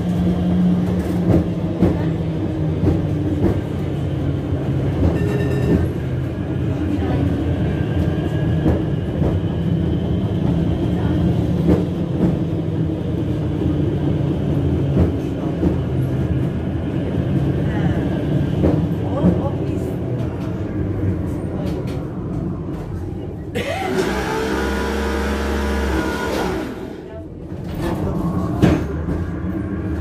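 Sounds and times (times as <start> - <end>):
tram motor hum: 0.0 - 30.0.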